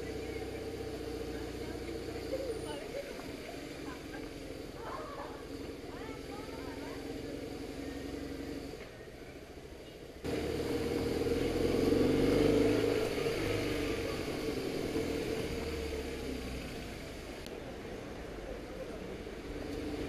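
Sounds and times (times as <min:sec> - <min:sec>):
motorcycle engine running: 0:00.0 - 0:17.5
road and wind noise: 0:00.0 - 0:20.0.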